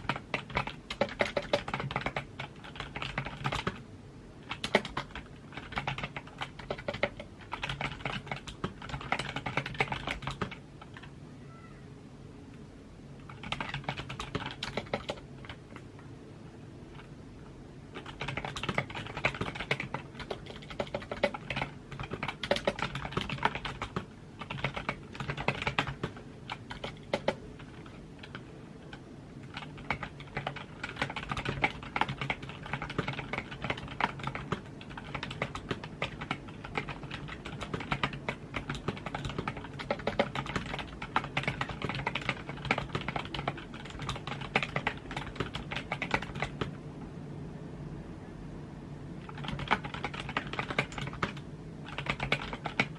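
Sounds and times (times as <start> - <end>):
typing on keyboard: 0.0 - 3.8, 4.4 - 11.1, 13.2 - 15.9, 17.9 - 46.8, 49.2 - 52.9
faint low hum: 0.0 - 52.9.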